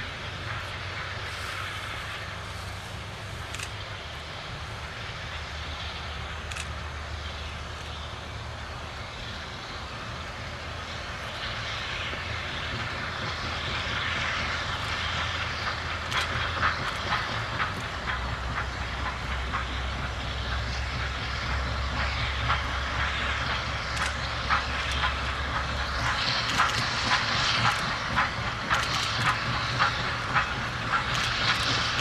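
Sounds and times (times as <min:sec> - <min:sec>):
steam locomotive exhaust: 0:00.0 - 0:32.0
train wheel clicks: 0:00.3 - 0:04.2, 0:06.3 - 0:08.0, 0:11.2 - 0:32.0.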